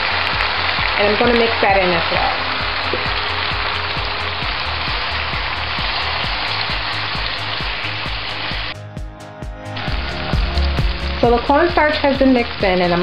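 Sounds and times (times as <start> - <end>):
vegetables sizzling in a skillet: 0.0 - 8.8, 9.8 - 13.0.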